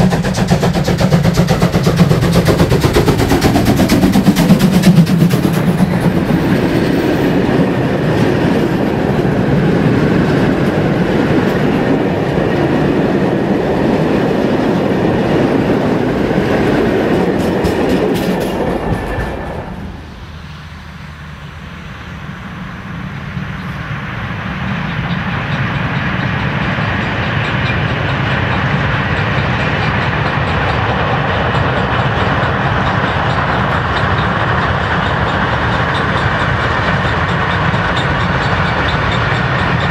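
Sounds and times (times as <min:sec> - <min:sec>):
wheels clacking over rail joints: 0:00.0 - 0:20.4, 0:23.5 - 0:39.9
freight train rumbling: 0:00.0 - 0:39.9.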